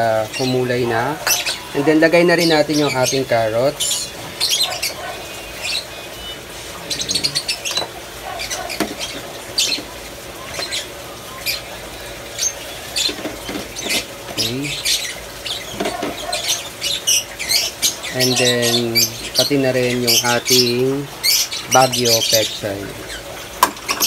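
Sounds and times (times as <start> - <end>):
lovebirds chirping: 0.0 - 24.0.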